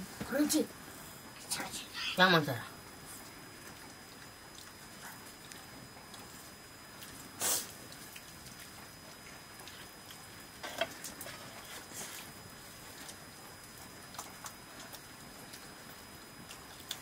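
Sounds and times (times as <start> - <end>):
faint steady hiss: 0.0 - 17.0
rustle: 1.8 - 17.0
people eating by hand: 2.7 - 17.0.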